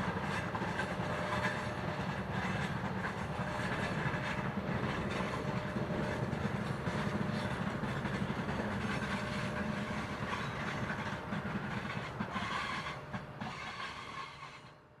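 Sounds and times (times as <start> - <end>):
diesel locomotive engine drone: 0.0 - 15.0
train wheels clicking on rail joints: 0.0 - 15.0.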